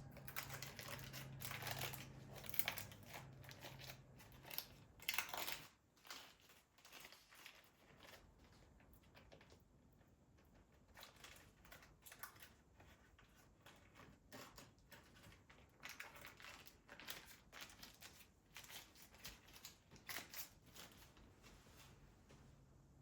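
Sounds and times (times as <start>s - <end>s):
rustling and crinkling objects: 0.0s - 22.8s.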